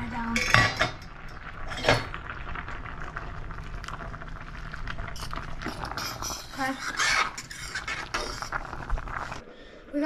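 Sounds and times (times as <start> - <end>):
pot of water boiling: 0.0 - 10.0.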